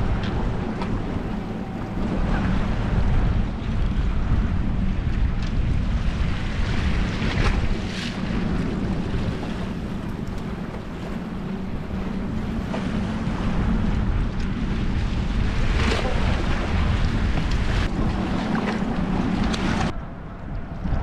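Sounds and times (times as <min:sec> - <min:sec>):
surf washing against rocks: 0:00.0 - 0:20.0
wind buffeting microphone: 0:00.0 - 0:21.0.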